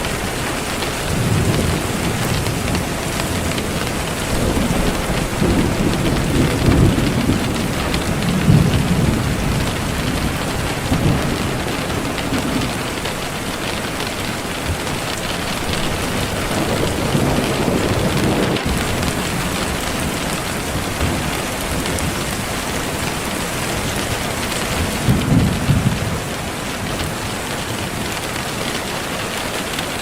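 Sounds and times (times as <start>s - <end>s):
thunder rumbling: 0.0s - 28.5s
heavy rain: 0.0s - 30.0s.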